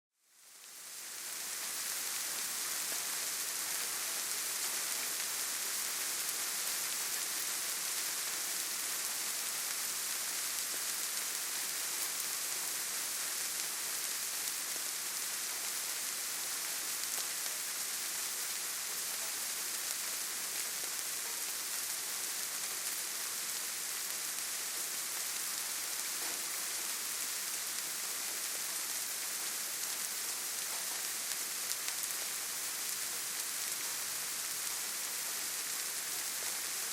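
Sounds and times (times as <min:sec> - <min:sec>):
rain falling on leaves: 0:00.2 - 0:36.9.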